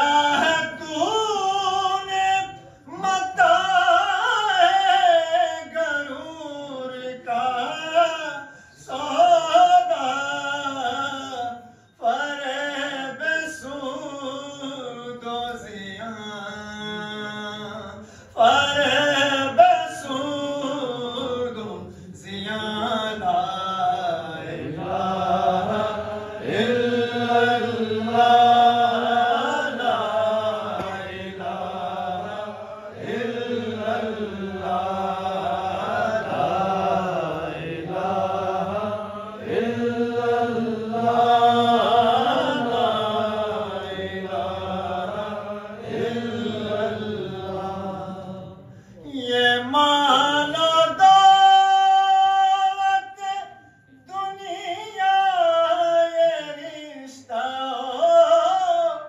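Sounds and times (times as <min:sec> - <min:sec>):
man chanting into a microphone: 0:00.0 - 0:59.0.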